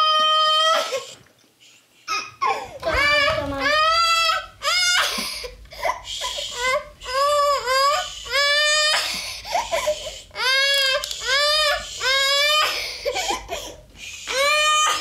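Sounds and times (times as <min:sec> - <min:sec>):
toddler girl crying: 0:00.0 - 0:01.2, 0:02.1 - 0:15.0.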